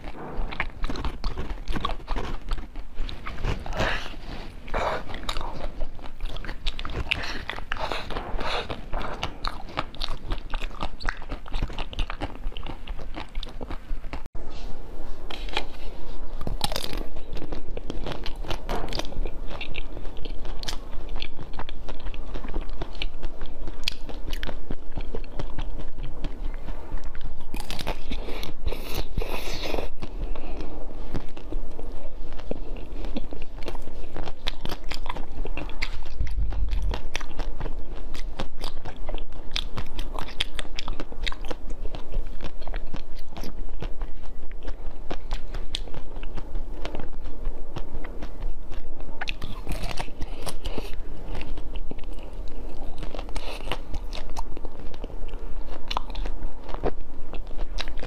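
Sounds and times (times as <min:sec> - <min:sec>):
biting and chewing soft food: 0:00.0 - 0:58.0.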